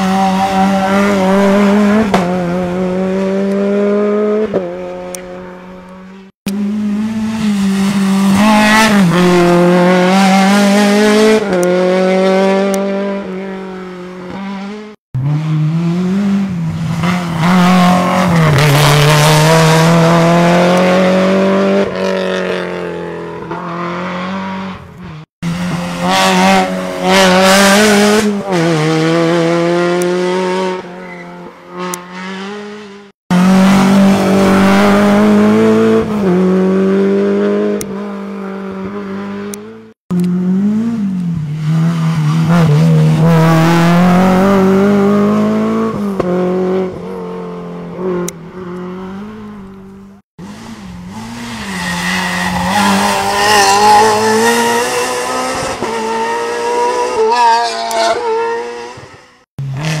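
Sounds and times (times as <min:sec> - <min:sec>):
rally car engines revving: 0:00.0 - 1:00.0.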